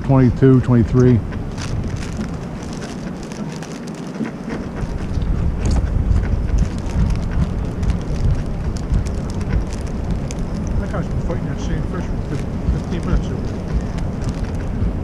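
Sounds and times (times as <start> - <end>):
light crackles: 0.0 - 15.0
water lapping against boat: 0.0 - 15.0
wind buffeting microphone: 0.0 - 15.0.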